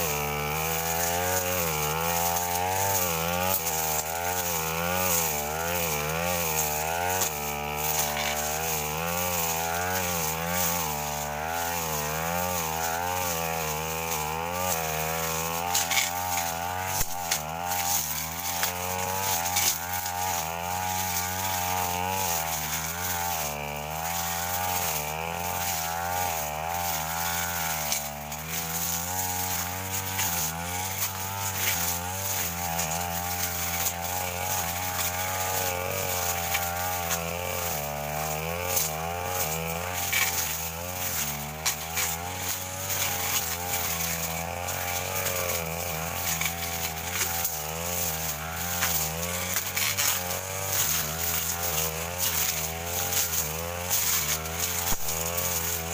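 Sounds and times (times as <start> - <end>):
petrol brush cutter running: 0.0 - 55.9.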